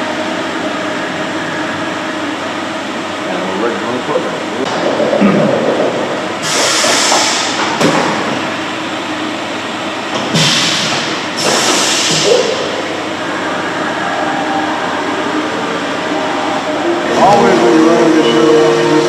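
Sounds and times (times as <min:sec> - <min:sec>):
milling machine hum: 0:00.0 - 0:19.0.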